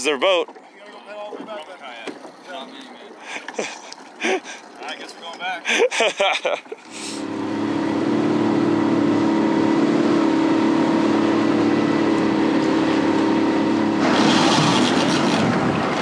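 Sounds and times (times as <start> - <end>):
outboard motor droning: 0.0 - 16.0
water rushing along hull: 0.0 - 16.0.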